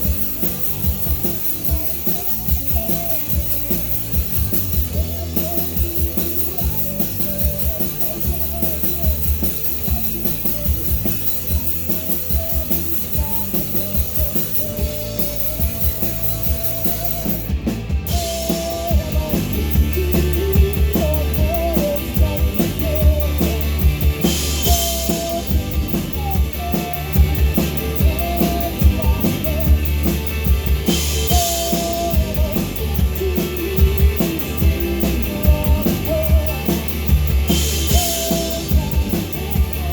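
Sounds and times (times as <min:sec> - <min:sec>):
drum kit: 0:00.0 - 0:39.9
live rock band playing: 0:00.0 - 0:39.9.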